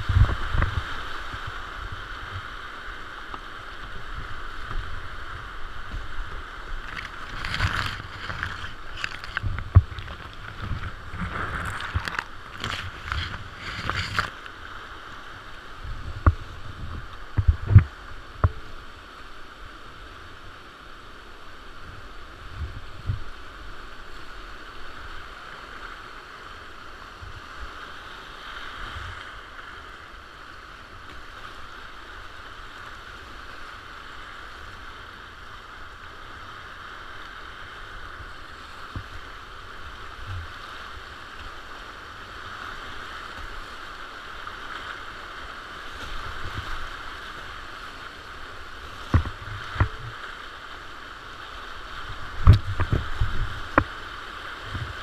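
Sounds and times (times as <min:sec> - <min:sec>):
whitewater rapids rushing: 0:00.0 - 0:55.0.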